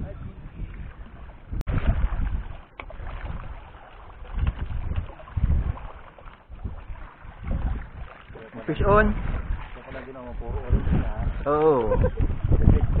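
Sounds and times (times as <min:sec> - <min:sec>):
wind buffeting microphone: 0:00.0 - 0:13.0
sea water slapping against boat: 0:01.0 - 0:13.0.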